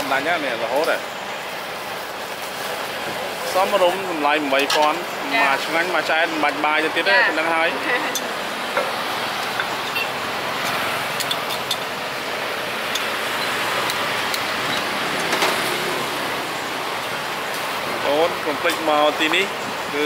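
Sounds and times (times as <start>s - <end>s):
traffic: 0.0s - 20.0s.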